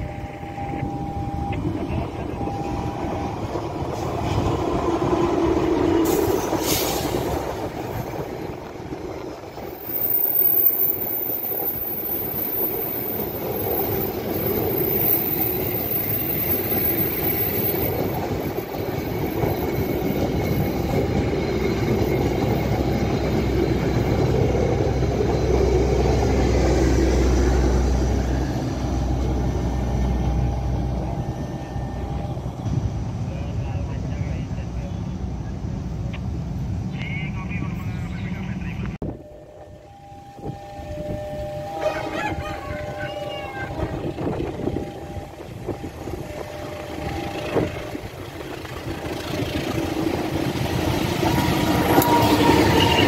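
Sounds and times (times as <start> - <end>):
diesel locomotive passing: 0.0 - 53.0
train wheels on rails: 0.6 - 34.2, 42.9 - 53.0.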